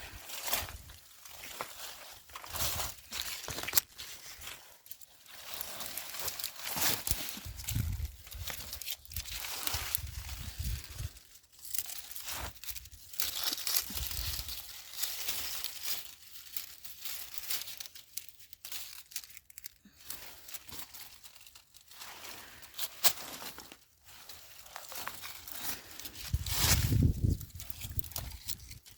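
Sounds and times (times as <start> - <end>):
dry leaves rustling and crackling: 0.0 - 28.9.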